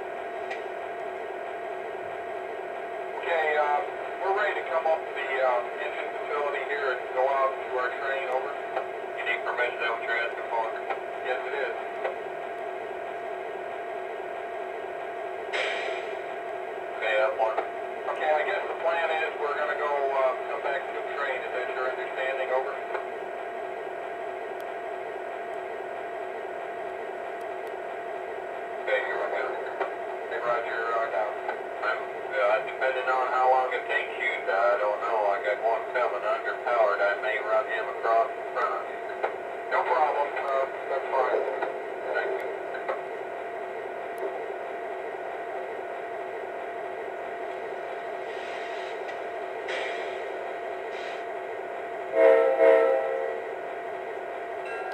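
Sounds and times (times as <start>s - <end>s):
diesel engine sound from speaker: 0.0s - 54.9s.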